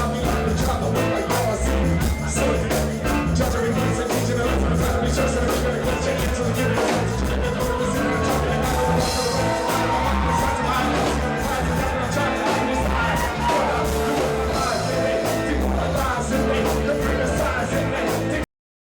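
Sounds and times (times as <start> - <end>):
live reggae band playing: 0.0 - 18.4
person singing: 0.0 - 18.5.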